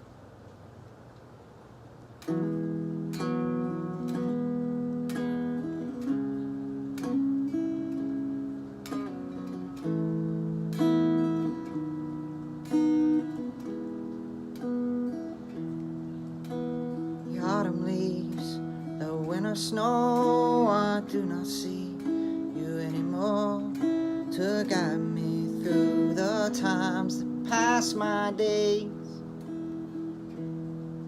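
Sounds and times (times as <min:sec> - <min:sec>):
acoustic guitar strumming chords: 0:02.2 - 0:31.0.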